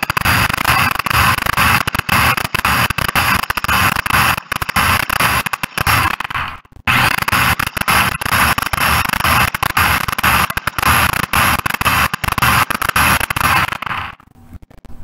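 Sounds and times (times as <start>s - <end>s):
electric grinder running: 0.0s - 14.2s.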